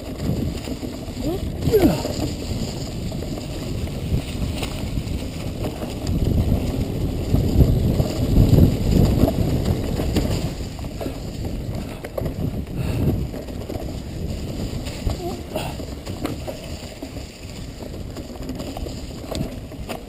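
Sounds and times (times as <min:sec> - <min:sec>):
bike rattling and knocking: 0:00.0 - 0:20.0
tyres rolling over leaves and rock: 0:00.0 - 0:20.0
wind buffeting microphone: 0:00.0 - 0:20.0.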